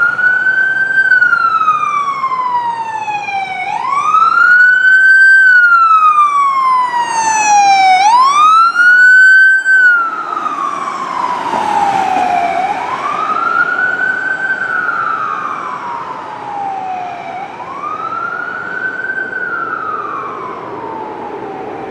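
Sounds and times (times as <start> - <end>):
ambulance siren wailing: 0.0 - 21.9
vehicle engine and tyre noise: 0.0 - 21.9.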